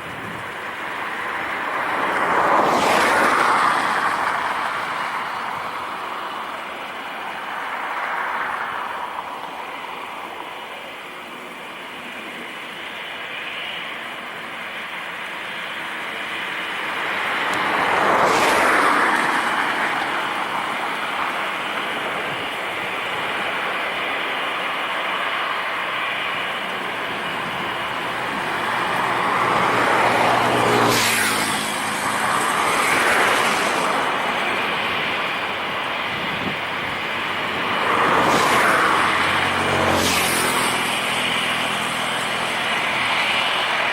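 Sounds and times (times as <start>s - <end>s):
vehicles passing close: 0.0s - 43.9s
steady engine noise: 8.4s - 43.9s.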